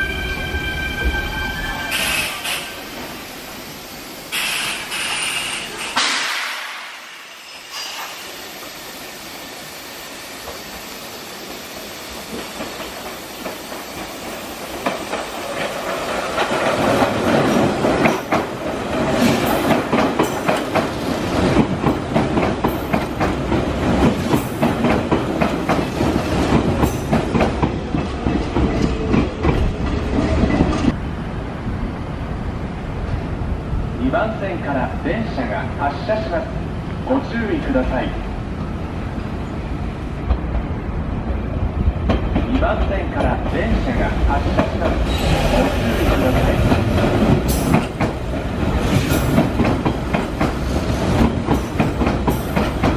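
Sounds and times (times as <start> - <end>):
distant train: 0.0 - 52.9.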